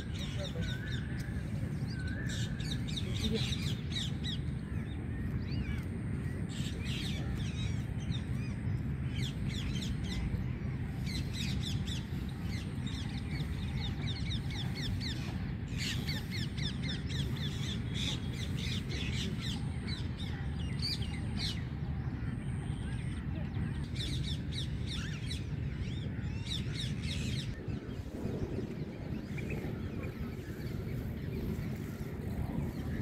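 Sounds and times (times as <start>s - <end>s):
many birds chirping: 0.0s - 33.0s
steady low rumble: 0.0s - 33.0s.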